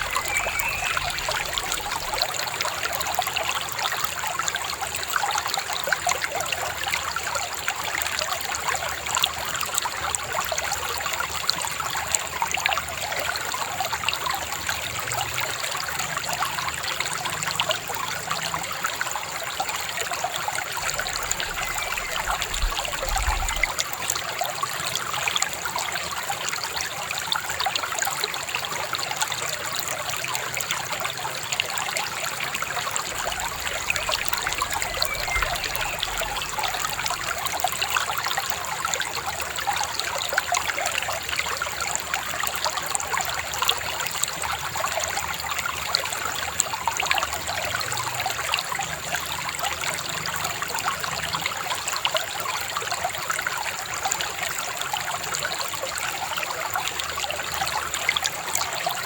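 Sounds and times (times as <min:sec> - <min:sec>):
river babbling: 0:00.0 - 0:05.6, 0:13.2 - 0:59.0.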